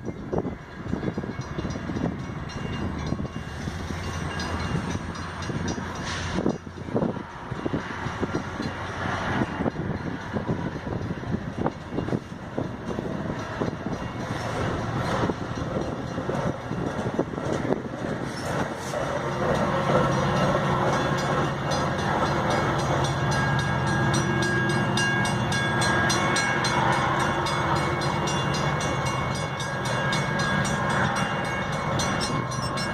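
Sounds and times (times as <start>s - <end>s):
train rumble: 0.0s - 32.9s
wheels clicking over rail joints: 0.0s - 32.9s.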